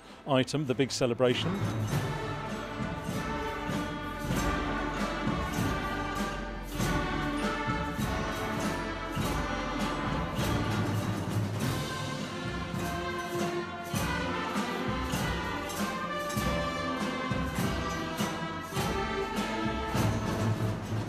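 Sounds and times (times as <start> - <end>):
orchestral music: 0.0 - 21.0
percussion strikes: 0.0 - 21.0.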